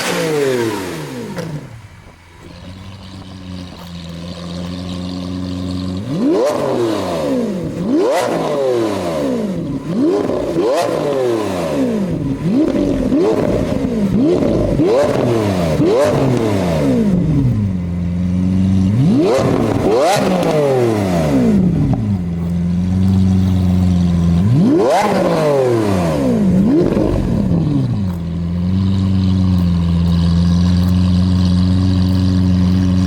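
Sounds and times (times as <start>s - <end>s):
sports car engine idling and revving: 0.0s - 33.0s.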